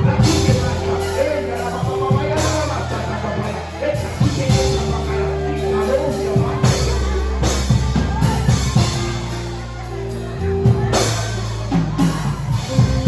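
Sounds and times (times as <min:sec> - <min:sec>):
bass: 0:00.0 - 0:13.0
drum kit: 0:00.0 - 0:13.0
held keyboard chords: 0:00.0 - 0:13.0
worship band music: 0:00.0 - 0:13.0.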